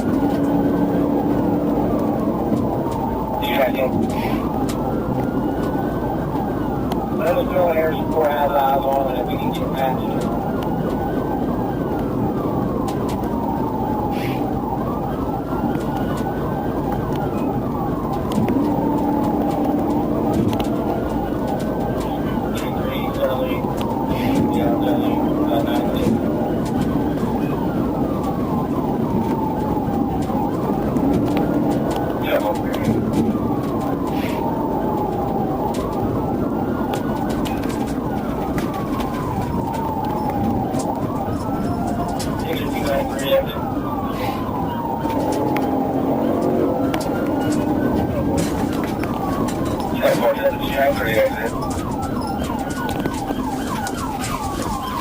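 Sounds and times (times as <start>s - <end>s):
car engine and road noise: 0.0s - 55.0s
police siren wailing: 0.0s - 55.0s
quick repeating siren tone: 0.0s - 55.0s.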